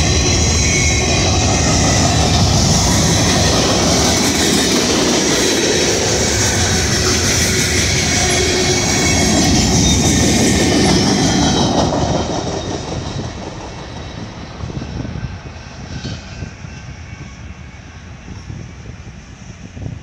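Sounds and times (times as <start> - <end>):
freight train rolling past: 0.0 - 20.0
train wheels squealing: 0.0 - 20.0.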